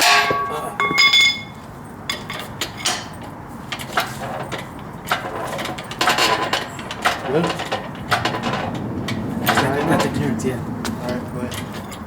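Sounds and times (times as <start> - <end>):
light metallic clinks and knocks: 0.0 - 10.1.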